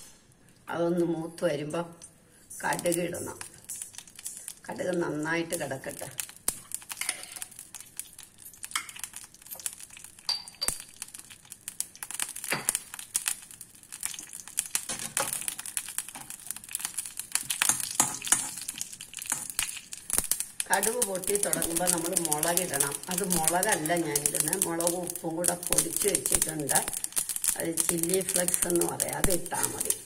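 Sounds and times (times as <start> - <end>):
mustard seeds popping in oil: 2.0 - 30.0
oil frying sizzle: 2.5 - 30.0.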